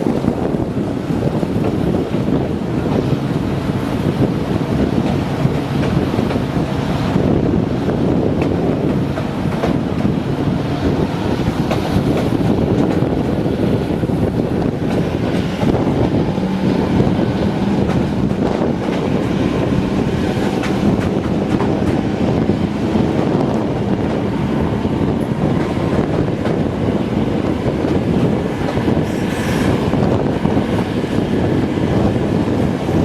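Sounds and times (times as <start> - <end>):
diesel locomotive engine running: 0.0 - 33.0
wind noise on microphone: 0.0 - 33.0.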